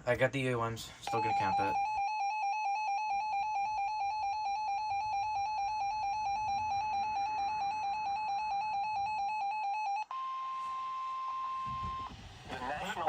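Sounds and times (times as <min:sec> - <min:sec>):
rapid buzzy alarm beeping: 0:01.0 - 0:12.2.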